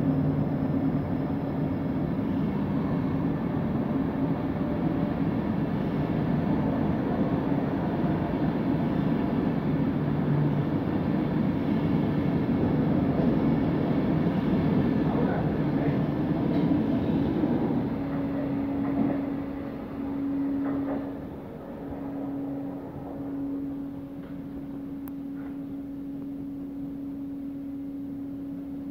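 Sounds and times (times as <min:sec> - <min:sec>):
train coaches rumbling past: 0:00.0 - 0:28.9.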